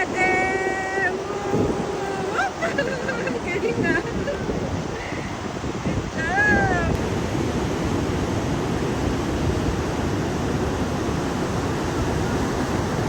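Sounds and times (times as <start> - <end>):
ocean surf rushing: 0.0 - 13.0
wind on microphone: 0.0 - 13.0.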